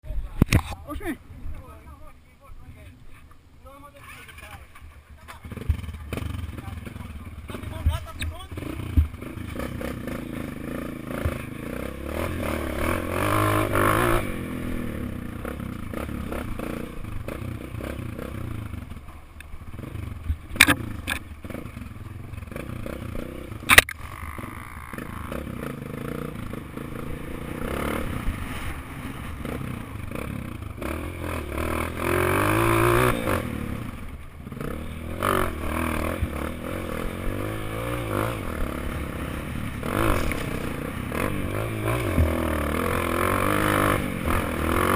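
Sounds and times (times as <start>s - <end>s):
dirt bike engine revving: 5.3s - 44.9s.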